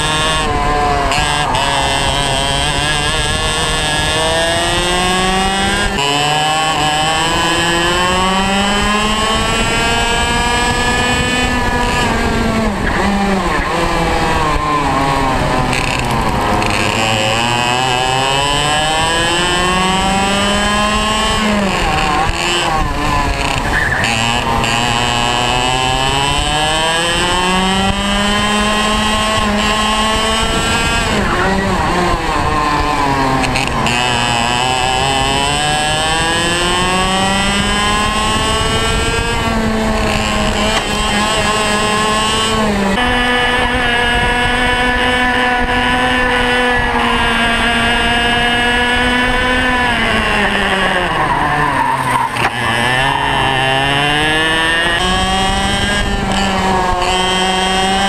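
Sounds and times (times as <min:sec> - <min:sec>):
racing kart engine revving: 0:00.0 - 0:58.0.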